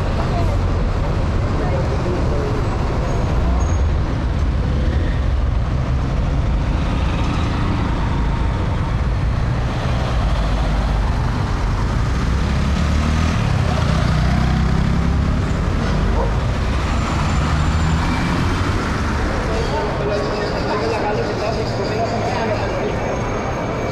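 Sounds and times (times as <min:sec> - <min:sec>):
traffic rumble: 0:00.0 - 0:23.9.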